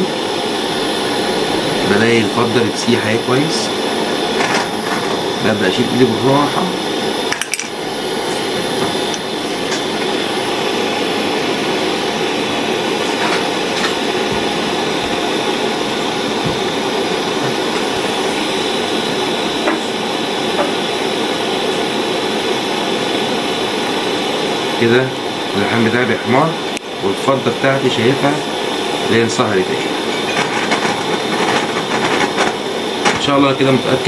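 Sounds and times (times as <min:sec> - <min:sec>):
torch flame hissing: 0:00.0 - 0:34.0.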